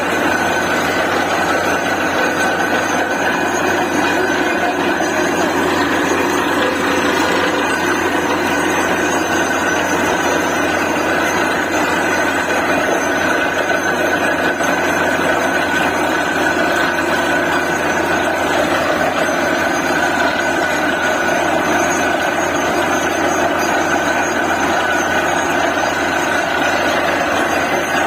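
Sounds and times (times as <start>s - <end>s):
drilling rig running: 0.0s - 28.0s.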